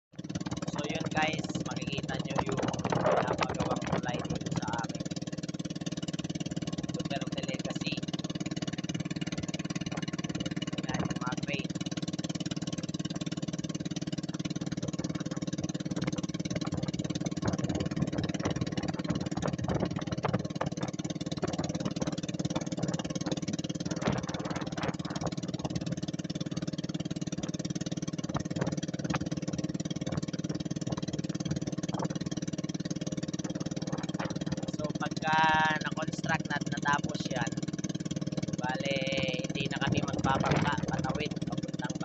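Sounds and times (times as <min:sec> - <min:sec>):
small engine running: 0:00.1 - 0:42.0.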